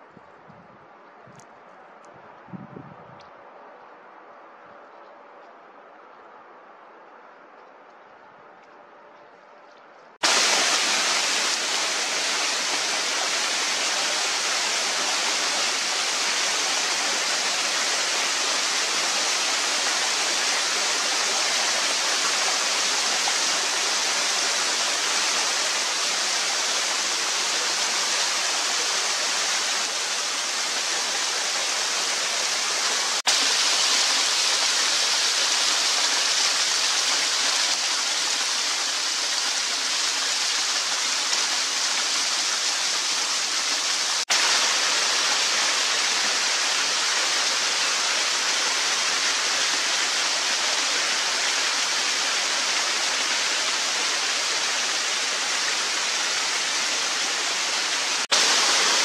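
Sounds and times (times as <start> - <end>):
small waterfall pouring over rock: 10.2 - 59.0.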